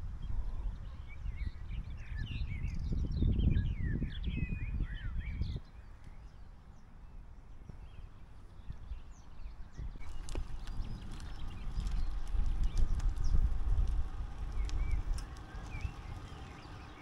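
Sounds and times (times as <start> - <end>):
songbirds chirping and singing: 0.2 - 17.0.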